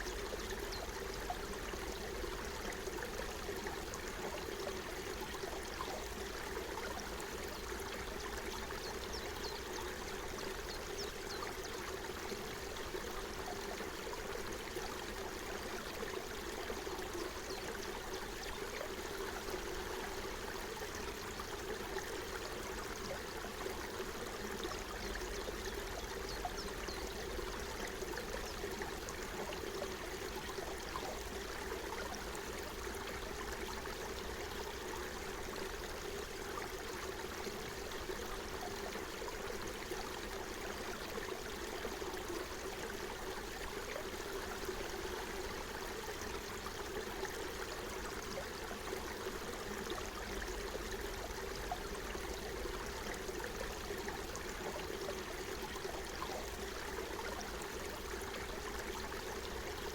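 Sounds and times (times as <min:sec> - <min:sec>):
forest stream running: 0:00.0 - 0:59.9.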